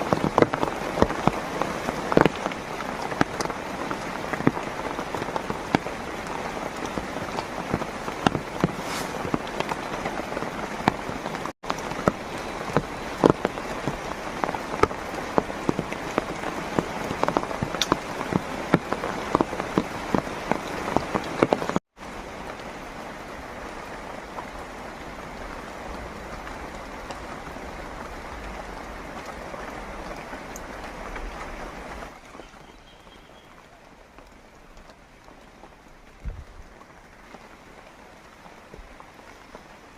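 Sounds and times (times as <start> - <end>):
heavy rain falling: 0.0 - 39.9
raindrops striking close surface: 0.0 - 39.9.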